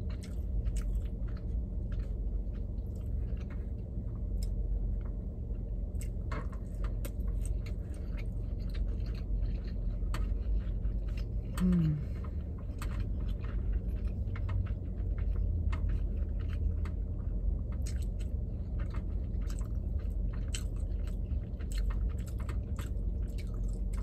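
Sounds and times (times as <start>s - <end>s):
low steady hum: 0.0s - 24.0s
person chewing: 0.0s - 24.0s.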